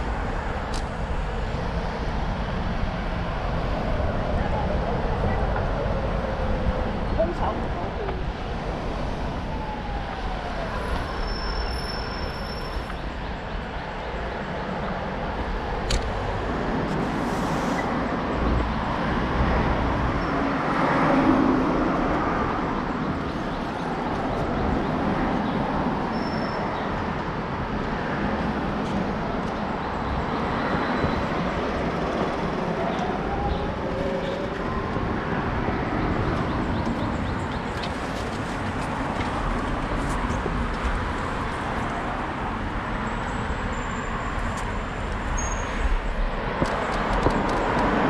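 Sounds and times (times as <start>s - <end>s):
traffic and road noise: 0.0s - 48.0s.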